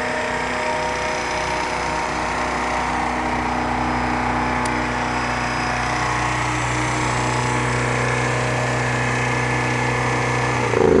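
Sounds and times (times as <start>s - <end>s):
generator humming: 0.0s - 11.0s.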